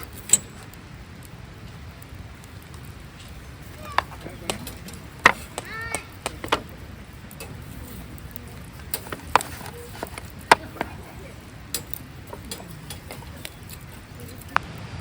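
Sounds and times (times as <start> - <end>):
sharp clicks and light knocks: 0.0 - 14.7
low steady background noise: 0.0 - 15.0.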